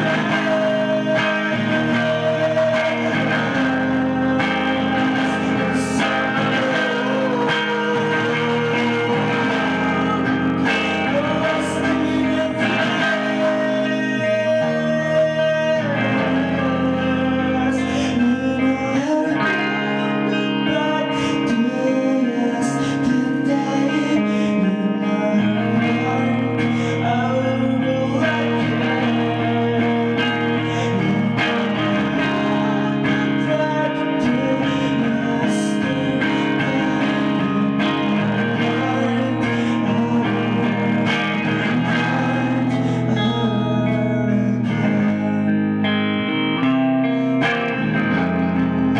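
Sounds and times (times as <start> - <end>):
electric guitar chords: 0.0 - 48.9
person singing: 0.0 - 48.9.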